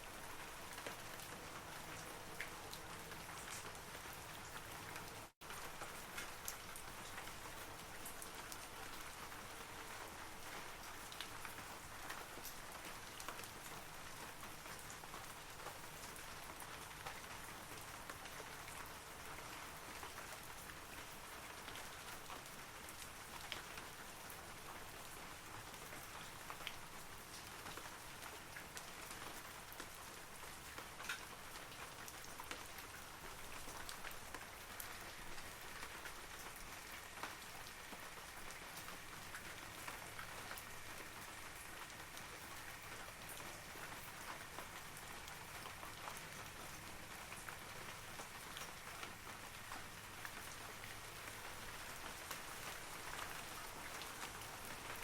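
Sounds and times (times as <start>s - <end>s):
rain falling on trees: 0.0s - 55.0s.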